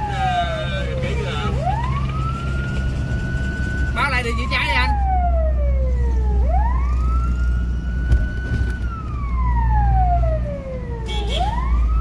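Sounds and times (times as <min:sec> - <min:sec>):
low engine drone: 0:00.0 - 0:11.0
fire engine siren wailing: 0:00.0 - 0:12.0.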